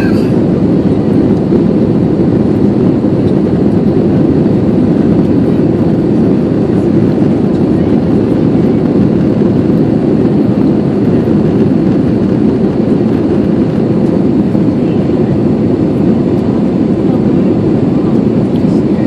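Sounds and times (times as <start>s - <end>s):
airplane engines rumbling: 0.0s - 19.0s.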